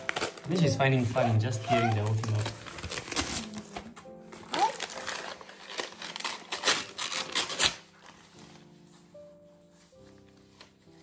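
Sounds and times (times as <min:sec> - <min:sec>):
quiet background music: 0:00.0 - 0:11.0
wrapping paper crinkling: 0:00.0 - 0:11.0.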